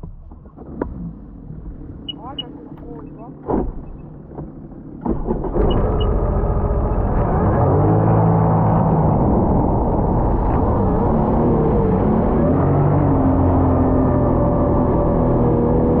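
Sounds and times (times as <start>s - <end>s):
personal watercraft engine revving: 0.4s - 16.0s.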